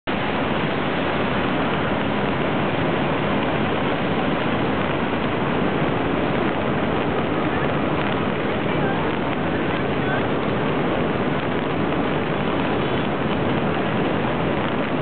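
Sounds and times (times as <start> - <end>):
rain falling steadily: 0.1 - 15.0.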